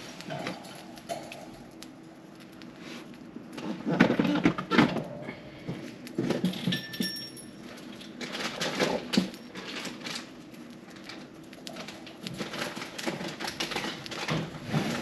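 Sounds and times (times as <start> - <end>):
birds pecking seeds: 0.0 - 4.6, 5.3 - 15.0.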